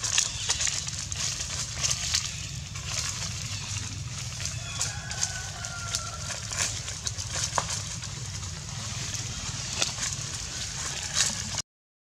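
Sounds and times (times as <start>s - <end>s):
low rumble: 0.0s - 4.6s, 6.2s - 11.6s
dry leaves crackling underfoot: 0.0s - 11.6s.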